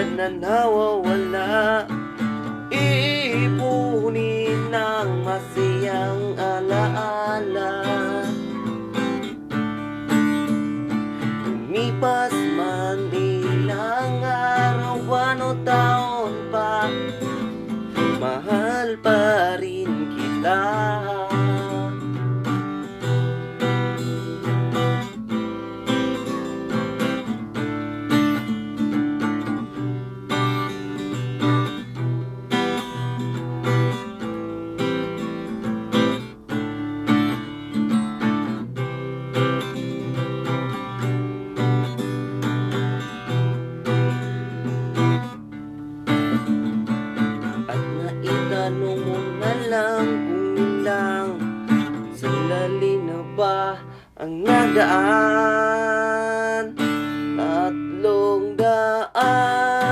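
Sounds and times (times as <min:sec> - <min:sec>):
acoustic guitar strumming chords: 0:00.0 - 0:59.9.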